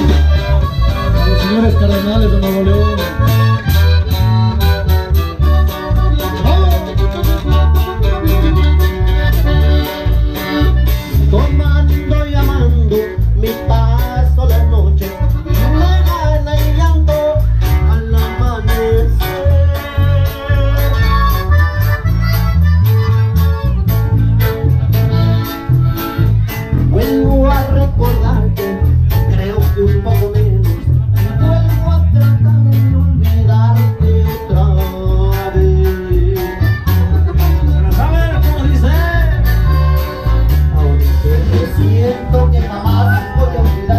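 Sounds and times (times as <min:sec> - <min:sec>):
live band playing dance music: 0:00.0 - 0:43.9.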